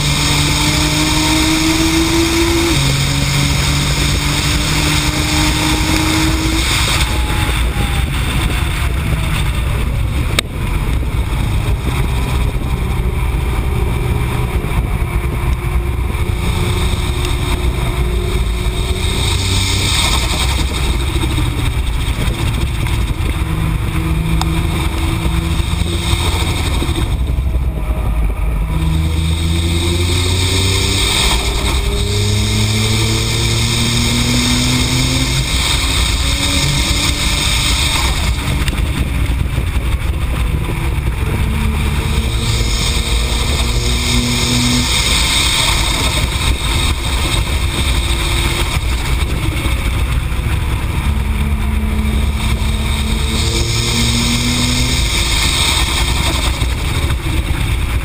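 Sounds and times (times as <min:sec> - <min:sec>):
car engine running hard: 0:00.0 - 0:58.0
wind and road noise: 0:00.0 - 0:58.0.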